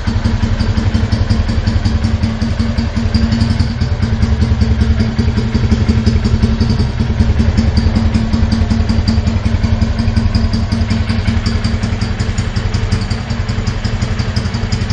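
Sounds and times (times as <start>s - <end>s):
motorcycle exhaust idling: 0.0s - 14.9s.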